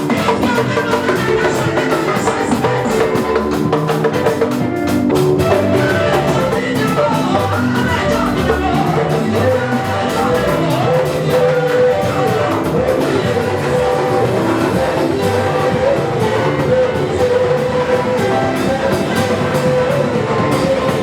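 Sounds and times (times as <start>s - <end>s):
gospel band playing: 0.0s - 21.0s
people singing: 0.0s - 21.0s.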